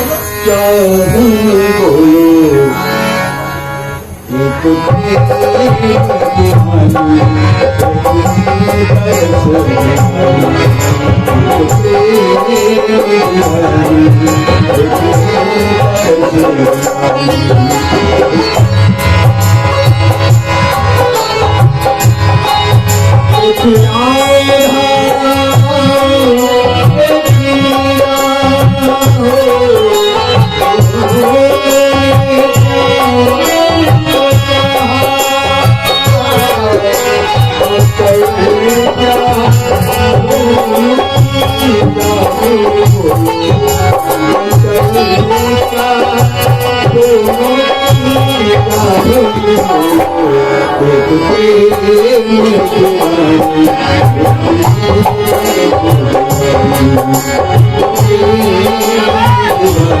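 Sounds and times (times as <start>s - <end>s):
tabla rhythm: 0.0s - 60.0s.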